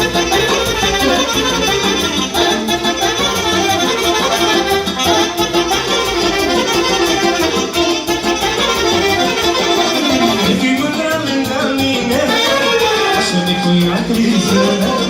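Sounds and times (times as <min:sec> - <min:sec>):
accordion: 0:00.0 - 0:15.0.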